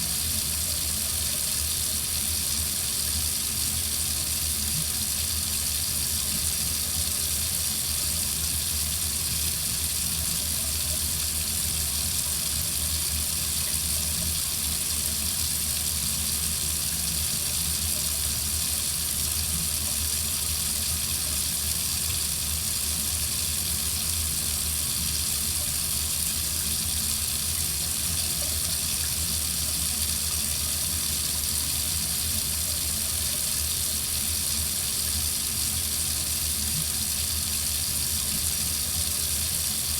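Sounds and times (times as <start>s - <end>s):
faucet running into sink: 0.0s - 39.9s.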